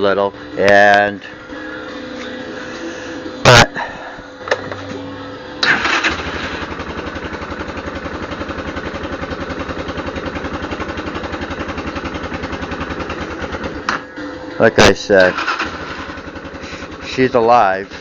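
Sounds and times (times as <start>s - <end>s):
atv engine starting and idling: 0.0s - 18.0s.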